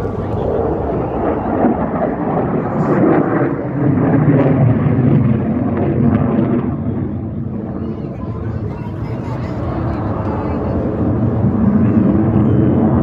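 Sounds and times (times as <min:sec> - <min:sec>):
crowd voices: 0:00.0 - 0:03.8, 0:06.3 - 0:13.0
aircraft flying low overhead: 0:00.0 - 0:13.0.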